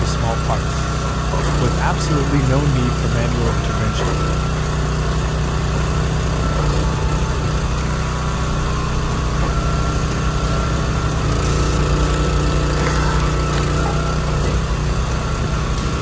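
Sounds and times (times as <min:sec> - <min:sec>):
log splitter engine running: 0:00.0 - 0:16.0.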